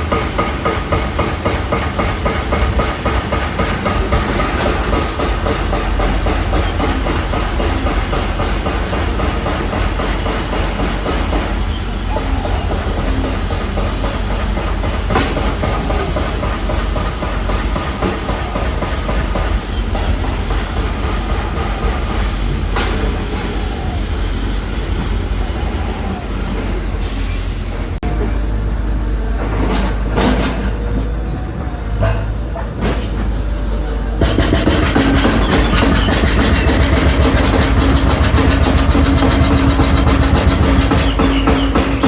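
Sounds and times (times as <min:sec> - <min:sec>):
machinery clatter and rattle: 0:00.0 - 0:42.0.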